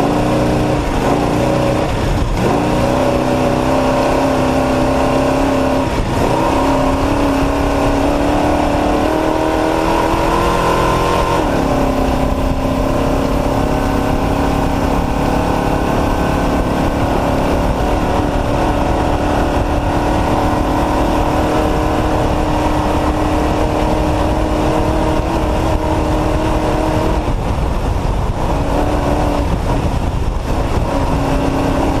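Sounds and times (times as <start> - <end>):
truck engine running hard: 0.0 - 32.0.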